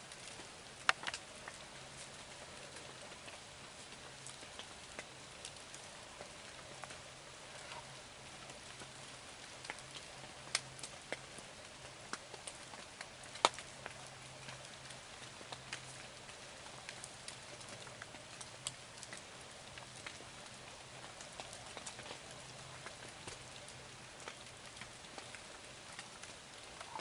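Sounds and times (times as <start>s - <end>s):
light rain falling: 0.0s - 27.0s
ticks of raindrops landing: 0.0s - 27.0s.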